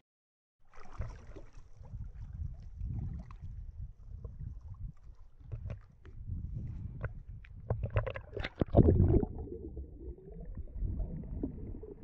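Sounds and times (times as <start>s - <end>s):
sea water sloshing and lapping: 0.6s - 12.0s.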